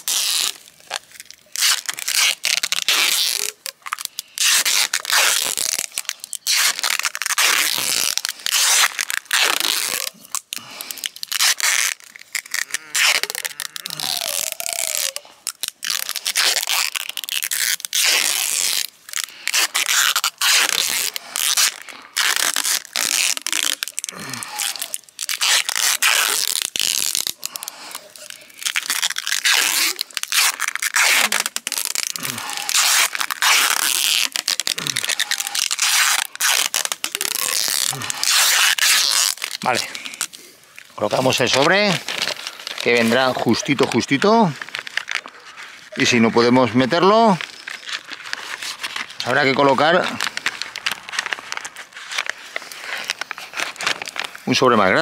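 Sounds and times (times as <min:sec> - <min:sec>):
packing tape pulled off roll: 0:00.0 - 0:55.0.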